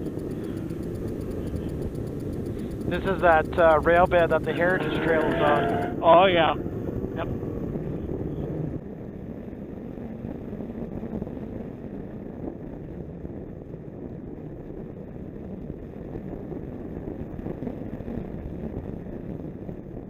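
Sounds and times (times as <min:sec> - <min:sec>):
snowmobile engine drone: 0:00.0 - 0:20.0
wind buffeting microphone: 0:00.0 - 0:20.0.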